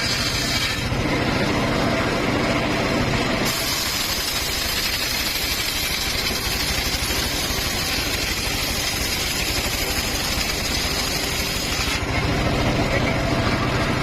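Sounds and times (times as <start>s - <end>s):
engine-driven circular saw running: 0.0s - 14.0s.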